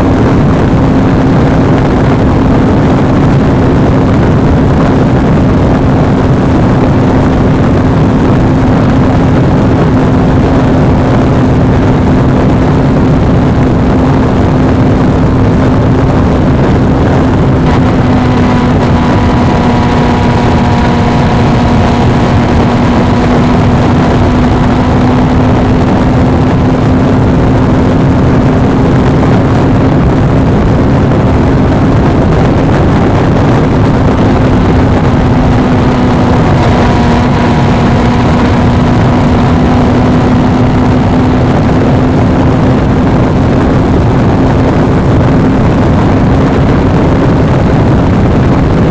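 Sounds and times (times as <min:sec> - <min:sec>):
motorcycle engine drone: 0:00.0 - 0:48.9
wind noise on microphone: 0:00.0 - 0:48.9.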